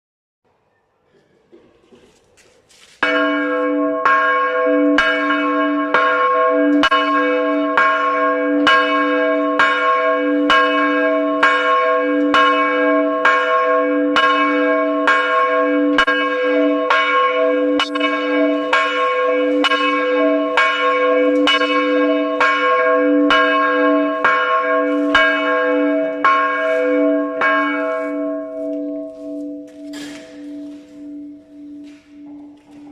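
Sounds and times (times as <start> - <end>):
church bell tolling: 3.0 - 32.9.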